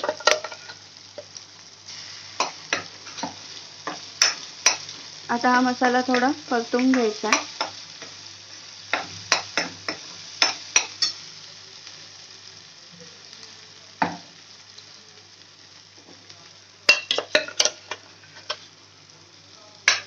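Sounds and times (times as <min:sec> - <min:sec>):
paste sizzling in oil: 0:00.0 - 0:20.0.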